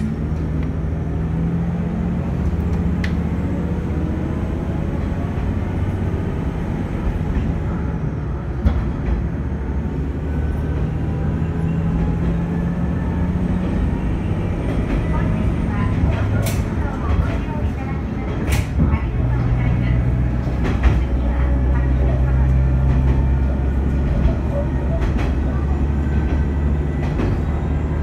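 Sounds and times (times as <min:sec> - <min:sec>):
wheel and rail noise: 0:00.0 - 0:28.0.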